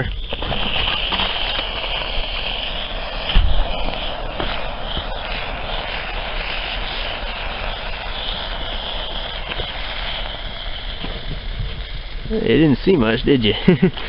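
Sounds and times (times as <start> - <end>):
thermite burning with hissing roar: 0.0 - 14.0.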